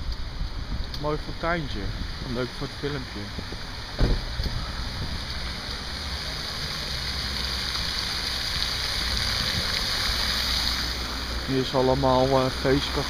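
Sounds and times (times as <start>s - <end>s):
fountain water splashing: 0.3s - 13.0s.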